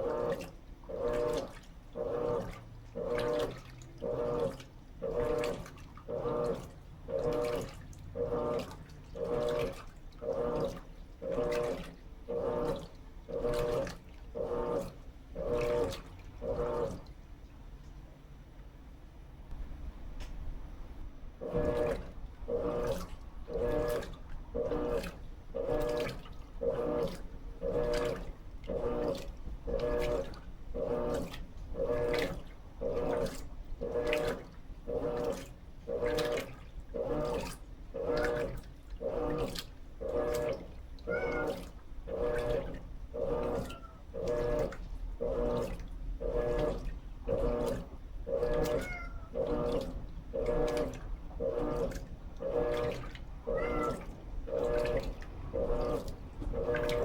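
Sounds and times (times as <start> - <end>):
washing machine agitating: 0.0 - 57.0.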